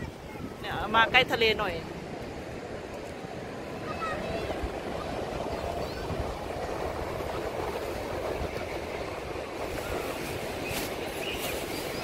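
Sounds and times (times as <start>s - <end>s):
distant surf: 0.0s - 12.0s
wind buffeting microphone: 0.0s - 12.0s.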